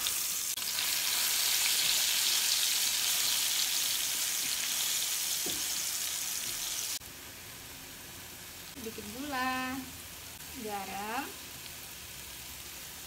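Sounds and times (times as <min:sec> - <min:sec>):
paste sizzling in hot oil: 0:00.0 - 0:07.0, 0:07.9 - 0:13.0.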